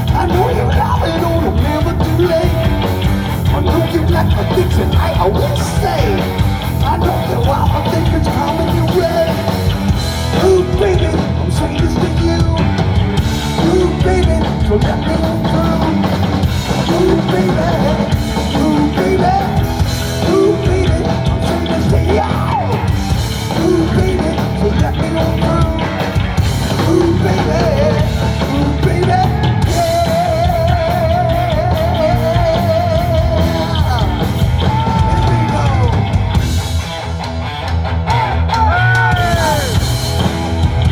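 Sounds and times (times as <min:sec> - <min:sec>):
drum kit: 0:00.0 - 0:40.9
electric guitars: 0:00.0 - 0:40.9
heavy rock band: 0:00.0 - 0:40.9.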